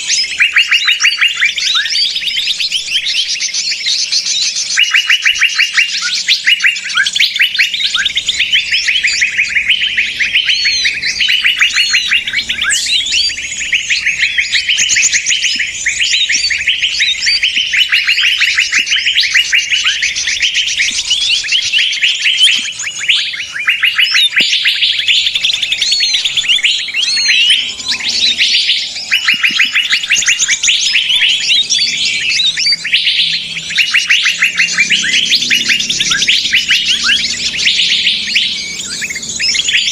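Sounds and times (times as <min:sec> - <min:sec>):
songbirds chattering and calling: 0:00.0 - 0:39.9.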